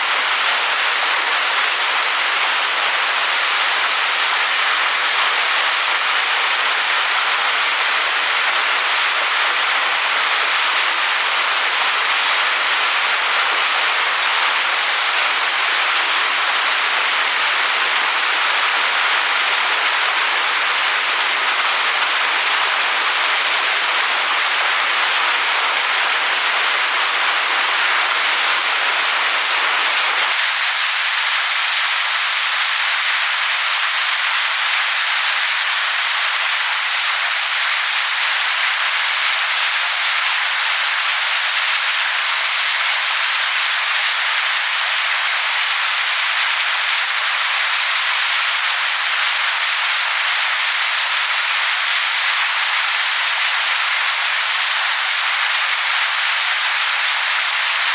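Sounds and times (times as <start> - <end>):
waterfall pouring onto rocks: 0.0 - 57.9.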